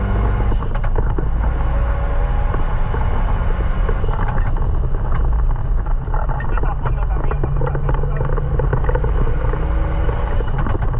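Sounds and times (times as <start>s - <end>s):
car engine rumbling: 0.0s - 10.9s.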